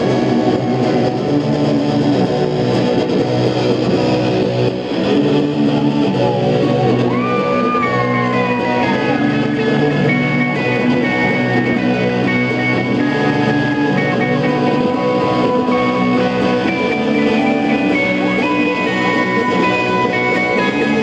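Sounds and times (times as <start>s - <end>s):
rock band jamming: 0.0s - 21.0s
high gliding guitar note: 3.6s - 21.0s.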